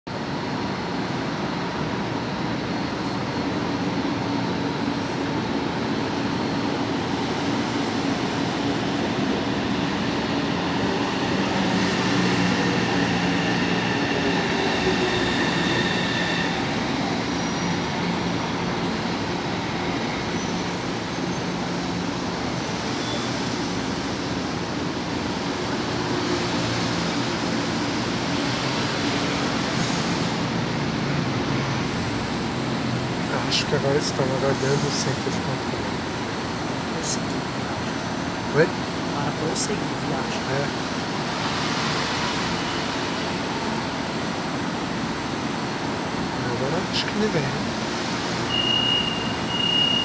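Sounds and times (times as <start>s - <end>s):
metro train rumbling: 0.1s - 50.0s.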